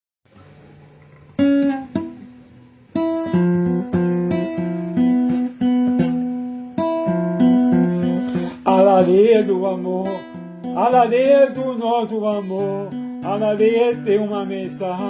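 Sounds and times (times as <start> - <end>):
acoustic guitar plucked chords: 0.3 - 15.0.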